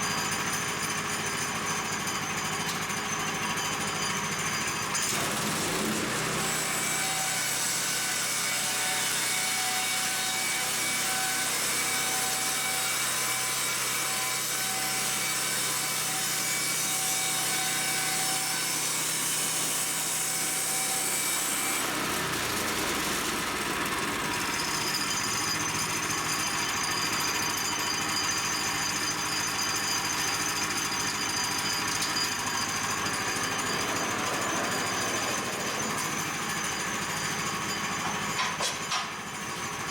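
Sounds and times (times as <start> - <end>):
bandsaw cutting boards: 4.8 - 39.9.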